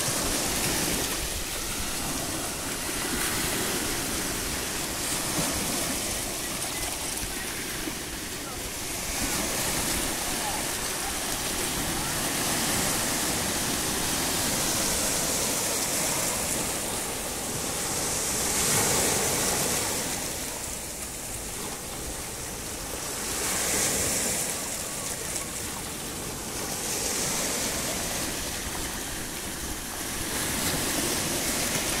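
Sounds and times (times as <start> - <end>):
sea waves breaking on stones: 0.0 - 32.0.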